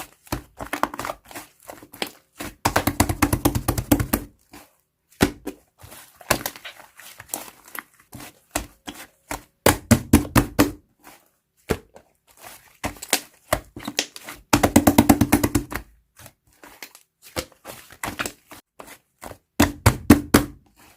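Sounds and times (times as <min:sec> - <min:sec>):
slime popping and squelching: 0:00.0 - 0:18.6.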